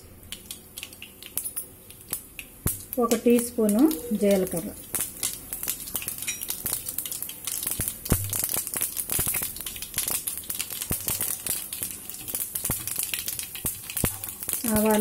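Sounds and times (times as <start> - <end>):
seeds crackling and popping: 0.0 - 15.0
seeds sizzling in hot oil: 0.0 - 15.0.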